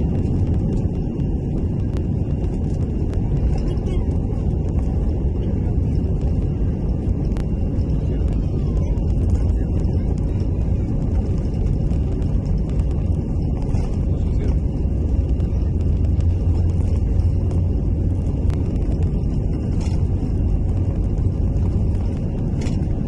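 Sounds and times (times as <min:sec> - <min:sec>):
faint steady whine: 0:00.0 - 0:23.0
jet engine cabin rumble: 0:00.0 - 0:23.0.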